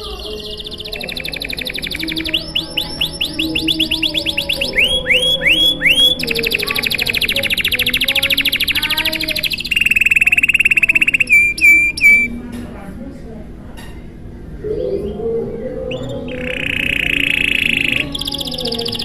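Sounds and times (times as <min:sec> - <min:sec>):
canary singing: 0:00.0 - 0:12.4, 0:14.7 - 0:19.0.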